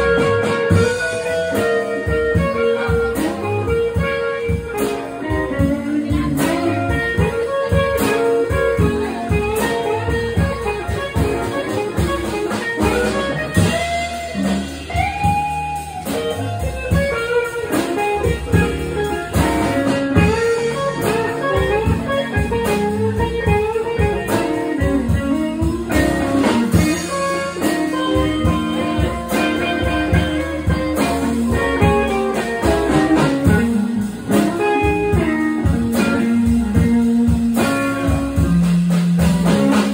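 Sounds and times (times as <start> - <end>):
guitars with bent notes: 0.0 - 39.9
live blues band playing: 0.0 - 39.9.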